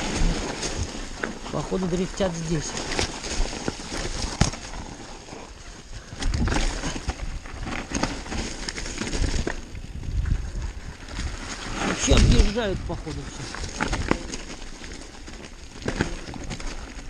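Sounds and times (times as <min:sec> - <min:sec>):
bike clicks and rattles: 0:00.0 - 0:17.0
tyres crunching on stones: 0:00.0 - 0:17.0.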